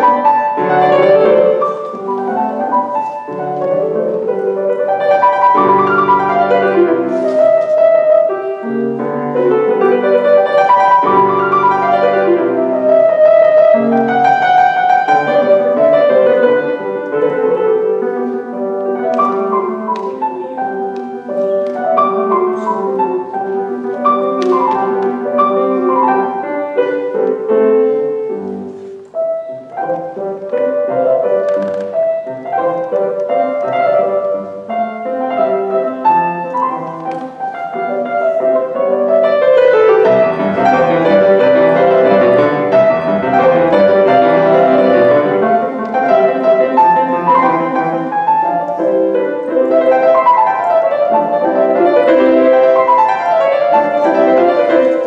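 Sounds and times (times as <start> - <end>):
grand piano playing classical music: 0.0 - 55.0.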